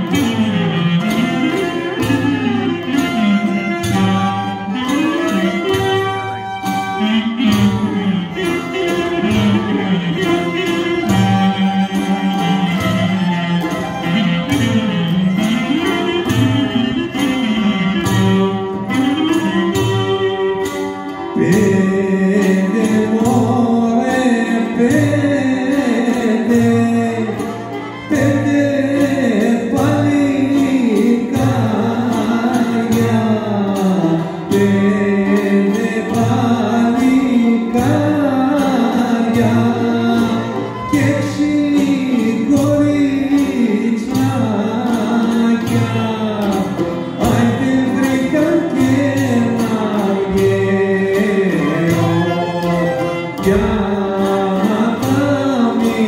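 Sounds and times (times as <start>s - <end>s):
folk music with singing: 0.0s - 56.0s.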